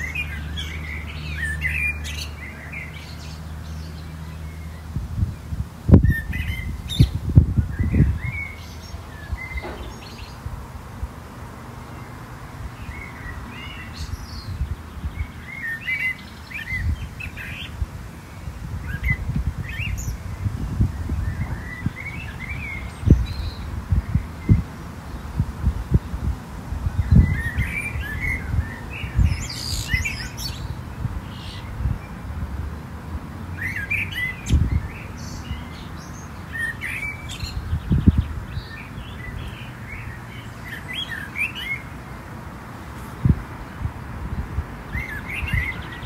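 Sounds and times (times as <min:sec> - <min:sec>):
small birds chirping: 0:00.0 - 0:32.9, 0:33.5 - 0:46.0.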